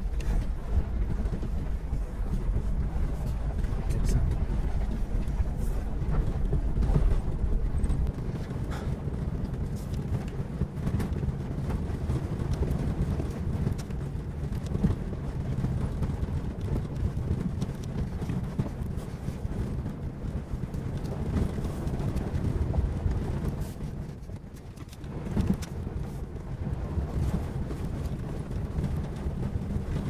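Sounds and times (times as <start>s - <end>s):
engine and tyres rumbling: 0.0s - 30.0s.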